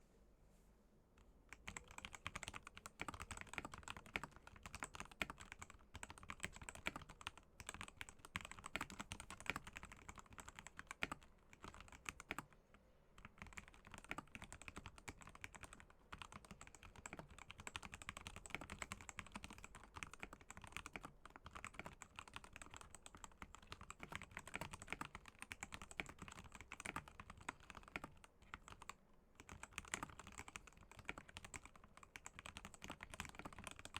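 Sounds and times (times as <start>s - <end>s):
mechanical keyboard typing: 1.5s - 12.6s, 13.2s - 33.9s.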